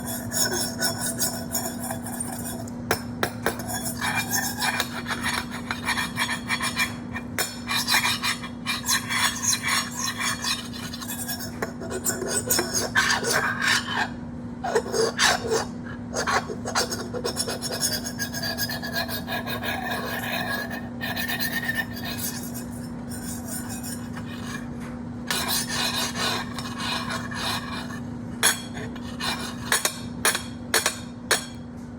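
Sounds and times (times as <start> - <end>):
scraping and rasping strokes: 0.0 - 2.7, 3.4 - 14.1, 14.7 - 24.7, 25.3 - 31.5
steady low hum: 0.0 - 31.9.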